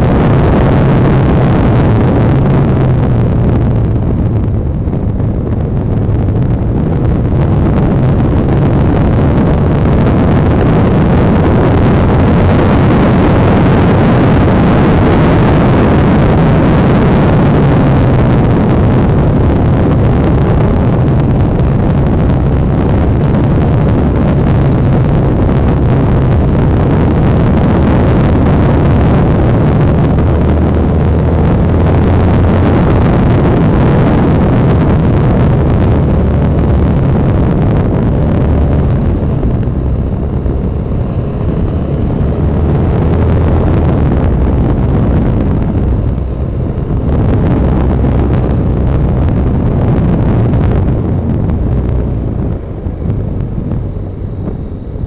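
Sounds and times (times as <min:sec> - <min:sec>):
road noise: 0:00.0 - 0:55.0
rushing wind: 0:00.0 - 0:55.0.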